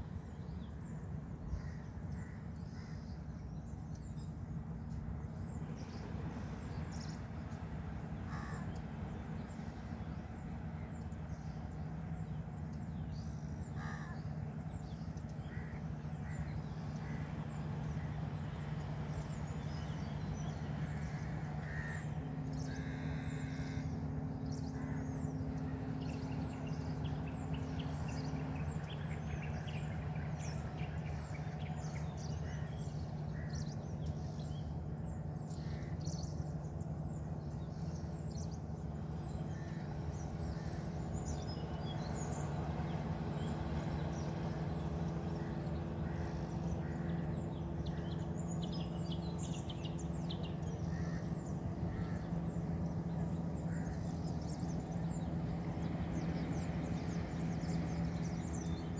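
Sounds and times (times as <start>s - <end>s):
steady low hum: 0.0s - 58.9s
birds chirping: 0.1s - 58.9s.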